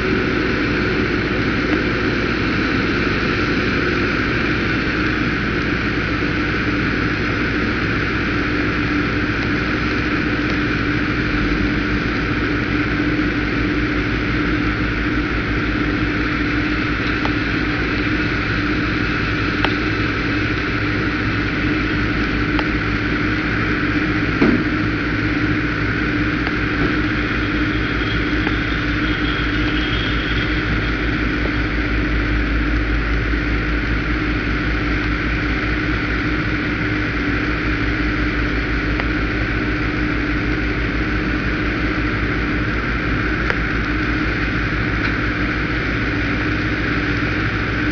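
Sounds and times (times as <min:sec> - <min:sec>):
diesel engines running: 0:00.0 - 0:47.9.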